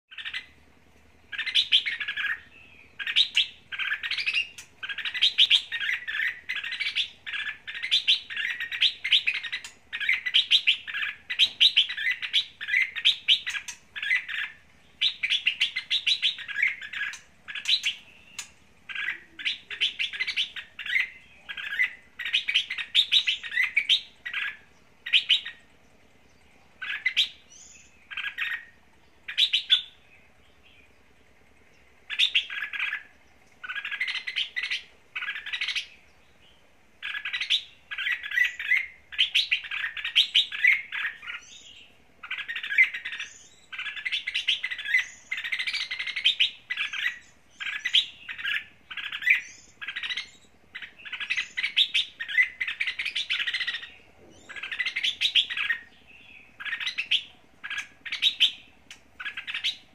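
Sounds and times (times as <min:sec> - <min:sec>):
bird singing warbling phrases: 0:00.0 - 0:59.9.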